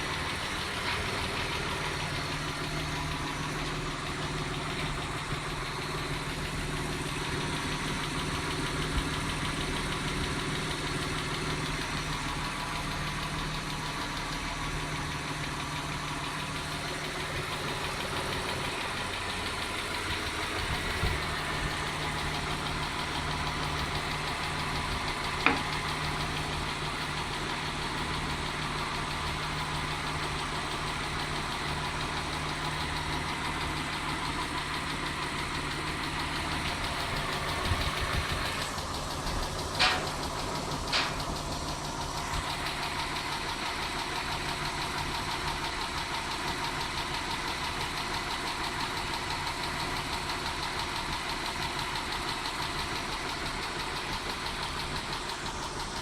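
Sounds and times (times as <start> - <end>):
engine idling with ticking: 0.0 - 56.0.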